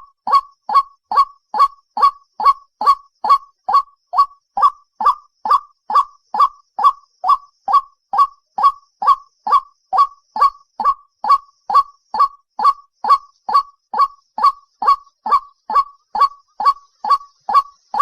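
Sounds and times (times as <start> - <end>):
waterhen calling hoarse notes: 0.0 - 18.0.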